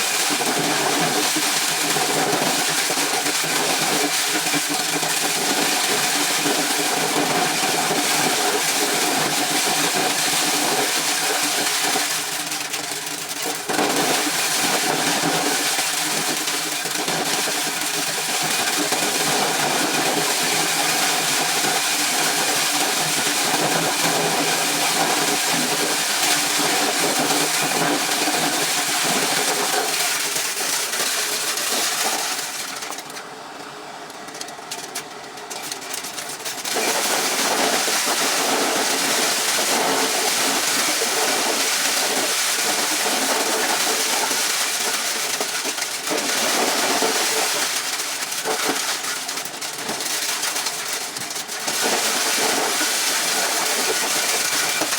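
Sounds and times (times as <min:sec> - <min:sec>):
corn shelling machine running: 0:00.0 - 0:54.9.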